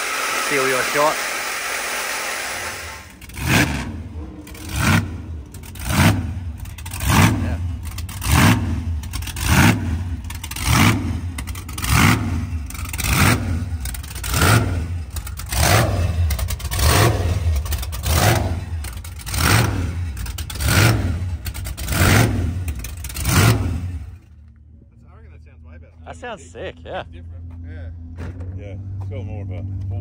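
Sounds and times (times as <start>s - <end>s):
car engine revving: 0.0s - 24.6s.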